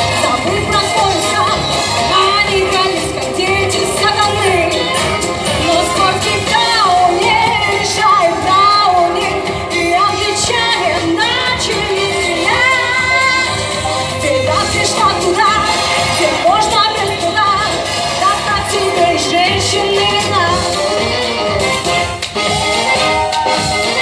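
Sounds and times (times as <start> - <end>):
pop music playing loudly: 0.0 - 24.0.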